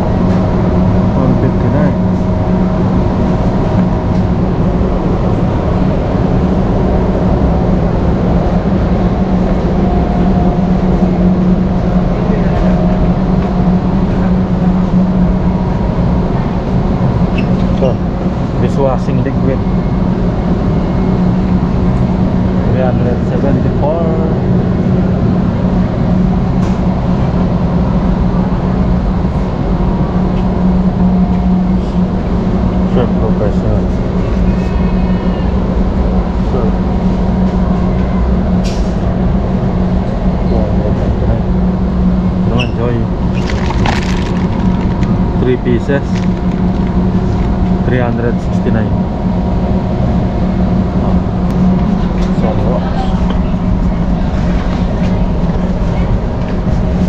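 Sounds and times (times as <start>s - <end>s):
warehouse store rumble and hum: 0.0s - 57.0s.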